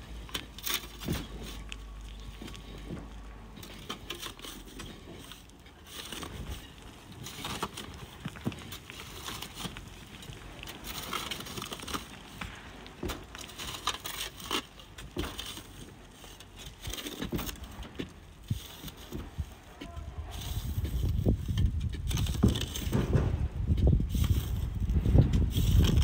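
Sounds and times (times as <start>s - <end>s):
hand tools digging in gravel: 0.0s - 26.0s.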